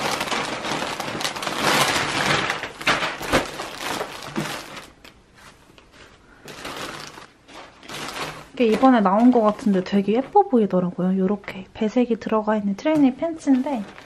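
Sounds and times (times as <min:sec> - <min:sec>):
plastic bag rustling: 0:00.0 - 0:10.7, 0:13.0 - 0:14.0.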